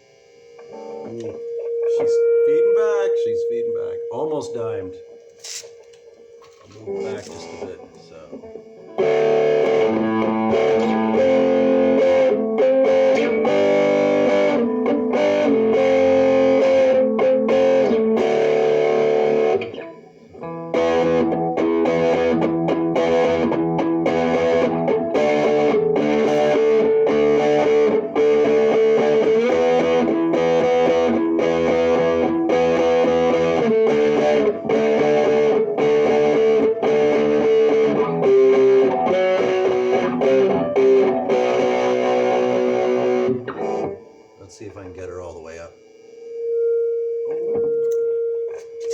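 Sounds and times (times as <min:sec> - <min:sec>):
distorted electric guitar chords: 0:00.0 - 0:48.9.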